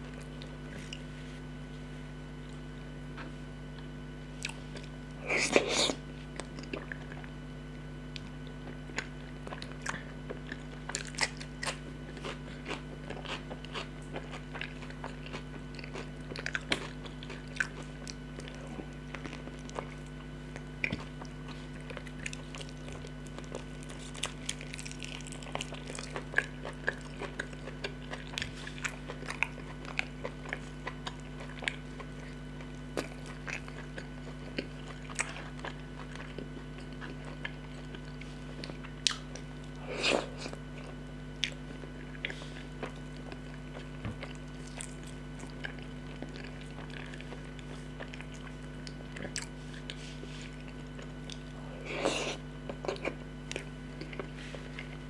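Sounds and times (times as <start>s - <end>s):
chewing and crunching food: 0.0s - 55.0s
steady low hum: 0.0s - 55.0s.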